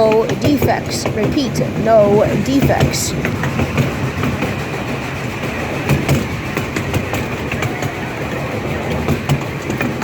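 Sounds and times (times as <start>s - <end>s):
train cars rumbling on track: 0.0s - 10.0s
wheels clicking over rail joints: 0.0s - 10.0s.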